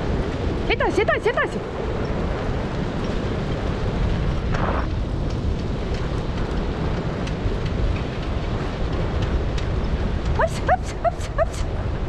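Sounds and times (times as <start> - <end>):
wheeled rig rumbling on dirt road: 0.0 - 12.0
wind noise on microphone: 0.0 - 12.0.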